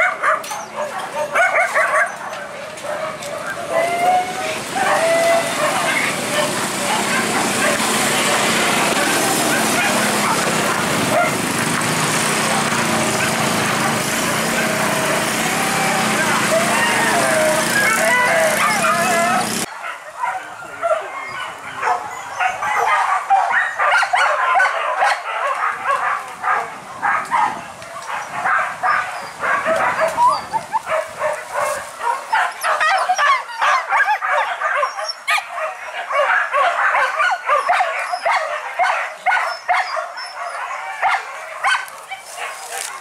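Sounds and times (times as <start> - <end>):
dogs barking and yelping: 0.0 - 43.0.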